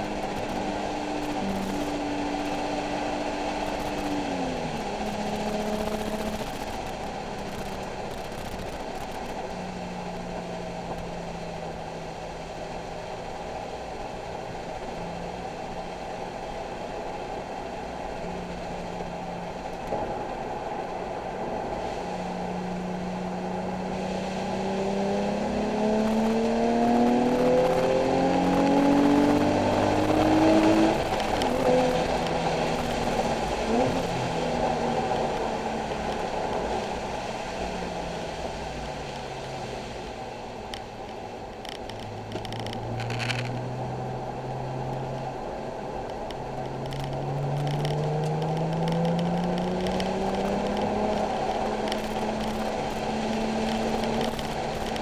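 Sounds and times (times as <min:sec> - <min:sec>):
car engine revving: 0:00.0 - 0:13.0, 0:18.0 - 0:55.0.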